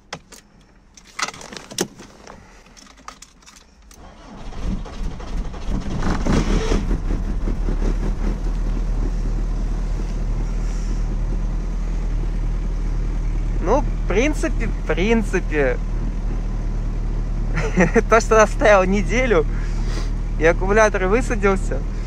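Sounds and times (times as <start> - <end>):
car engine cranking and idling: 0.0 - 22.0.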